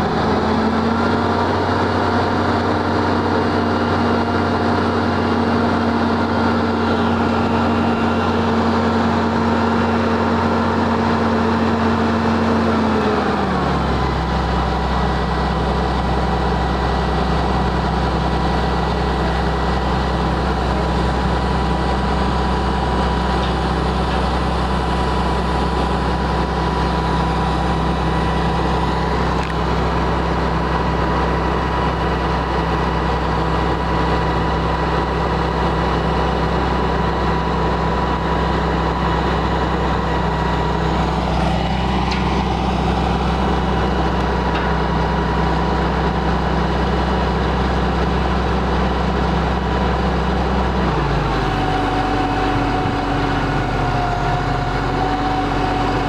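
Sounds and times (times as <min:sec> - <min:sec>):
engine idling hum: 0:00.0 - 0:56.0.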